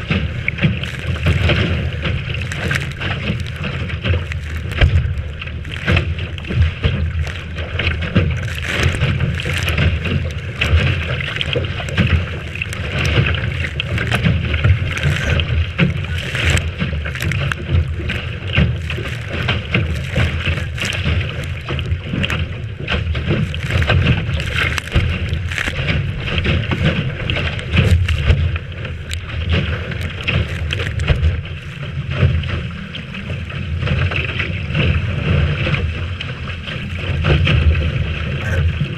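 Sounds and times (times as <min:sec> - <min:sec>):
sharp splashes: 0:00.0 - 0:38.9
water rushing along hull: 0:00.0 - 0:38.9
wind buffeting microphone: 0:00.0 - 0:38.9.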